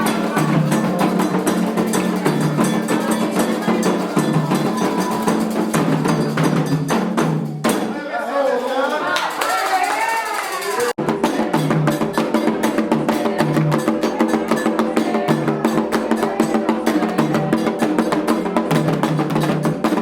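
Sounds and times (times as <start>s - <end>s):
singing: 0.0s - 6.6s, 9.4s - 20.0s
hand drums fast rhythm: 0.0s - 7.9s, 10.9s - 20.0s.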